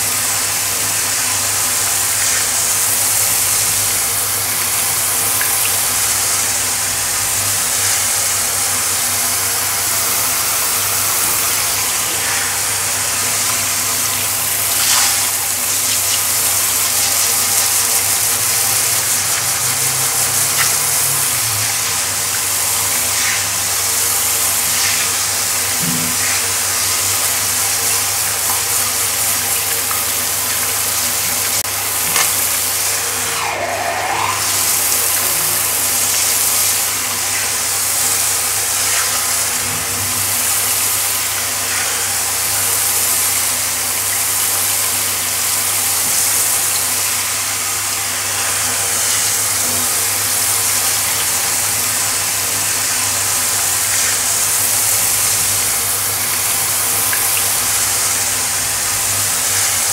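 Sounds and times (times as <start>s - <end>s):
shower spraying on tiled floor: 0.0s - 59.9s.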